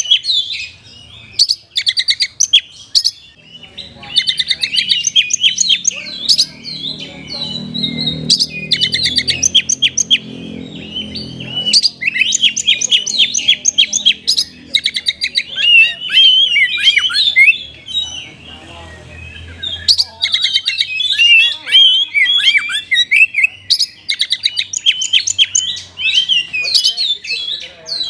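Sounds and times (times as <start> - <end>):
magpie-robin singing: 0.0 - 28.0.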